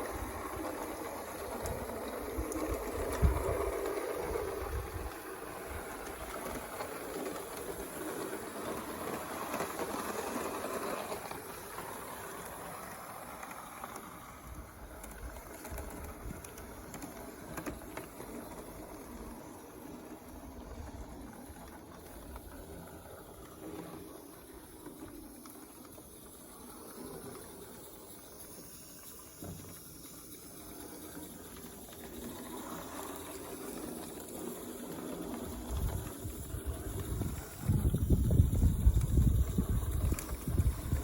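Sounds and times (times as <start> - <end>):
model steam locomotive running: 0.0 - 41.0.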